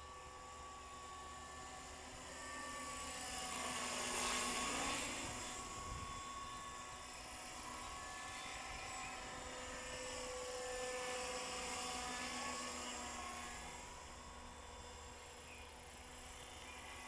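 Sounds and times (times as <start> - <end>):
helicopter motor and gears whining: 0.0 - 17.0
helicopter rotor noise: 0.0 - 17.0.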